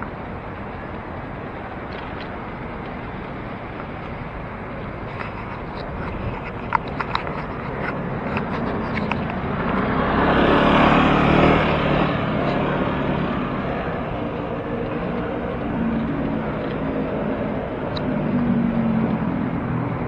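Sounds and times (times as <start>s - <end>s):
motor vehicle engine: 0.0s - 20.0s
road noise rushing: 0.0s - 20.0s.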